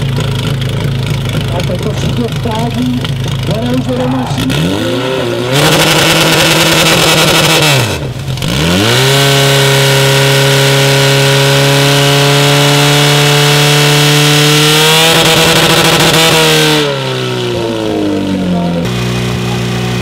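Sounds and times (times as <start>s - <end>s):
pump engine running at high revs: 0.0s - 20.0s.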